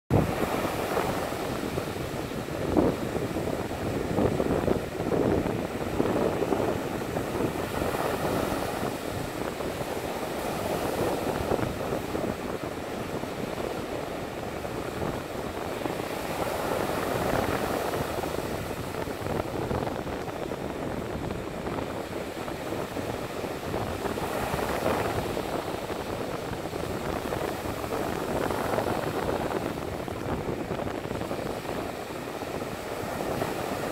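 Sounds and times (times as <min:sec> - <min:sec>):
surf breaking on shore: 0:00.1 - 0:33.9.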